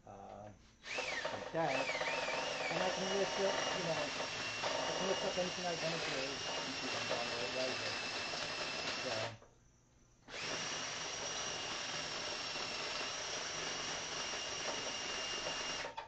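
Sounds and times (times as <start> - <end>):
cordless drill whining: 0.8 - 9.4, 10.3 - 16.0.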